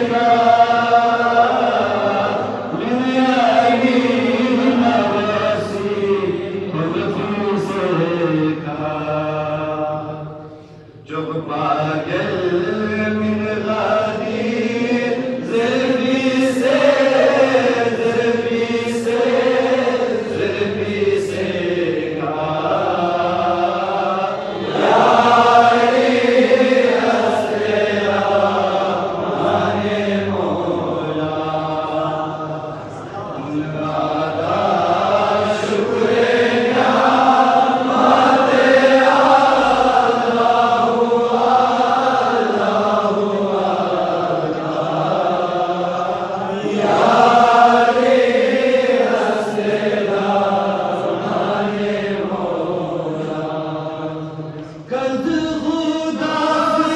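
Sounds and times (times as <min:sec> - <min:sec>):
men chanting: 0:00.0 - 0:56.9.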